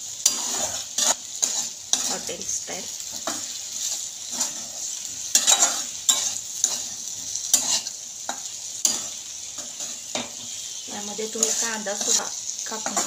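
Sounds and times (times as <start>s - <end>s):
food sizzling in a pan: 0.0s - 13.0s
spatula scraping a pan: 0.1s - 13.0s.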